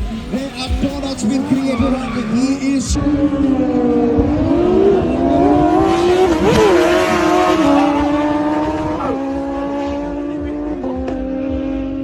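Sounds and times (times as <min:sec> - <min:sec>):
car engine revving: 0:00.0 - 0:12.0
tyre noise: 0:00.0 - 0:12.0.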